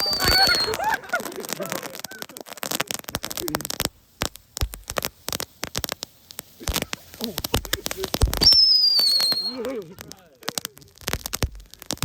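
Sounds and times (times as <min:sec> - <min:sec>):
firework crackling and popping: 0:00.0 - 0:12.0.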